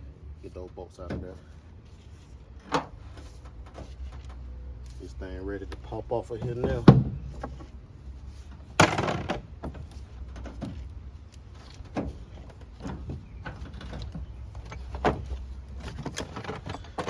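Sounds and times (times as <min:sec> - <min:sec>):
metal tools clinking on engine: 0:02.2 - 0:07.9, 0:08.6 - 0:17.0.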